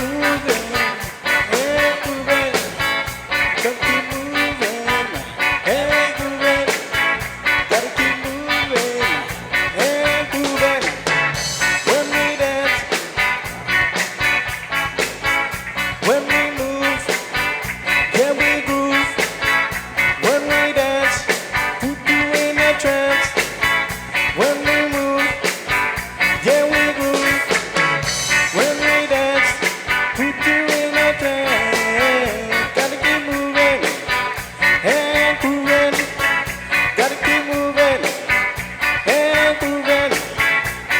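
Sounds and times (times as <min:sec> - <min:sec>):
reggae band playing live: 0:00.0 - 0:40.9.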